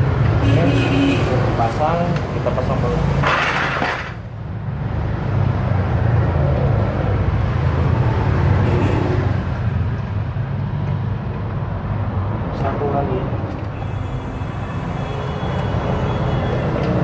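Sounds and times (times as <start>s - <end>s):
low rumble of vehicles: 0.0s - 17.0s.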